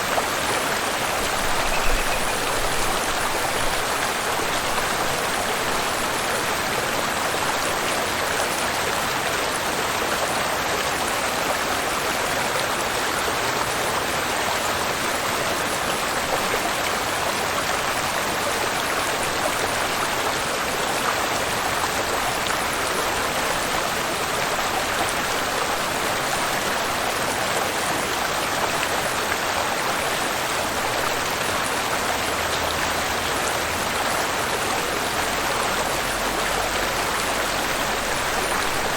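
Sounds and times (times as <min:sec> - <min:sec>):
waterfall and river rushing: 0:00.0 - 0:38.9.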